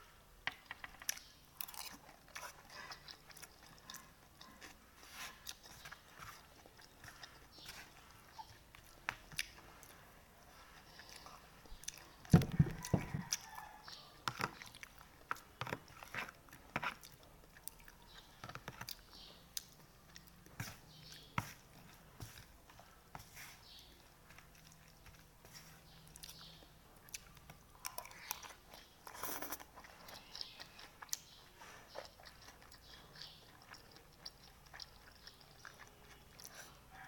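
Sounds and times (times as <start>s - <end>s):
person chewing food: 0.0s - 37.0s.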